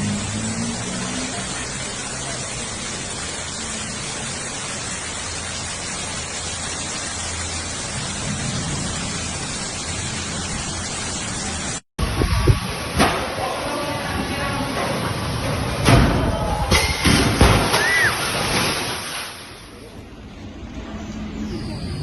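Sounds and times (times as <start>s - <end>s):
heavy rain pouring: 0.0s - 20.4s.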